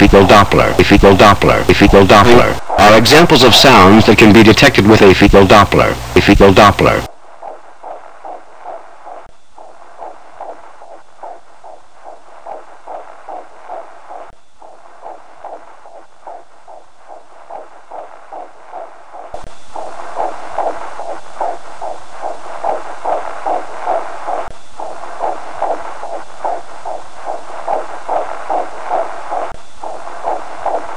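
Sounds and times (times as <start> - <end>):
fetal heartbeat on doppler: 0.0 - 30.9.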